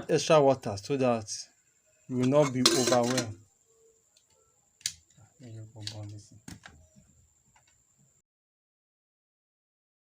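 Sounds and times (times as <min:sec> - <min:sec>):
faint room hiss: 0:00.0 - 0:08.2.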